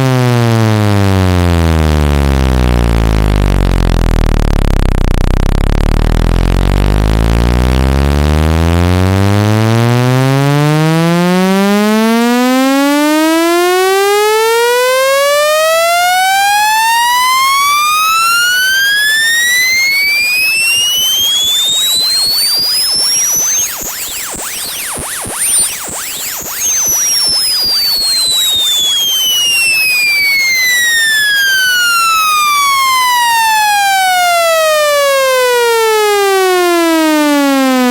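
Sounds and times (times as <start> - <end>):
test tone sweeping upward: 1.6 - 37.9.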